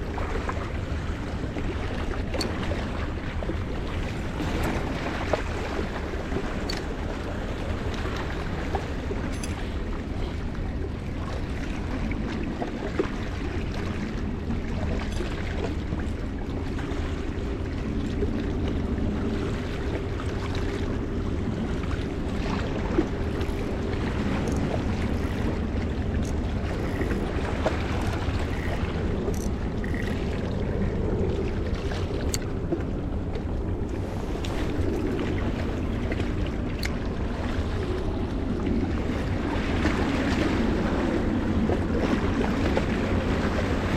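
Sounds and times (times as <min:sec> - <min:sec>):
faint hum: 0:00.0 - 0:43.9
wind and water rumble: 0:00.0 - 0:43.9.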